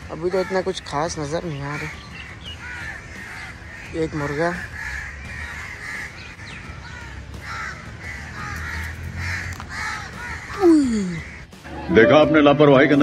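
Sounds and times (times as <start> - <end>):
crows cawing: 0.0 - 11.7.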